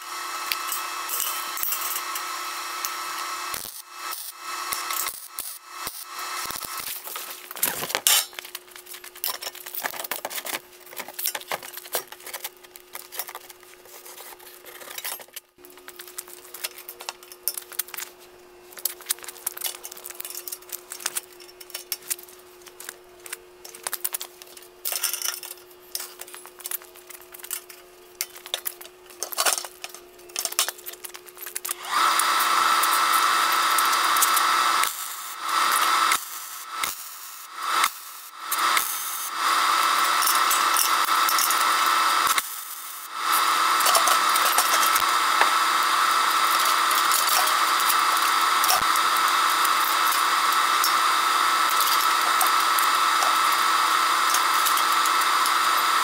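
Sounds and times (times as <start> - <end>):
welder crackling buzz: 0.0 - 14.4, 15.6 - 56.0.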